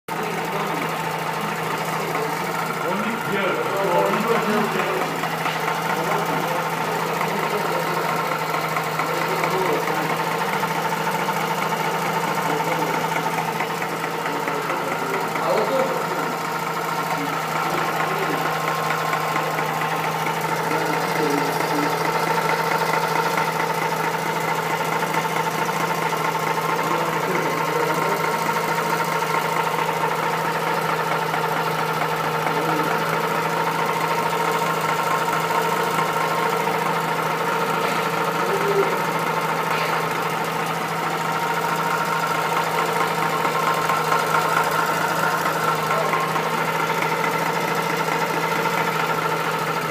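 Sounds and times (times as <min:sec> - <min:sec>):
rotary engine running with knock: 0:00.1 - 0:49.9.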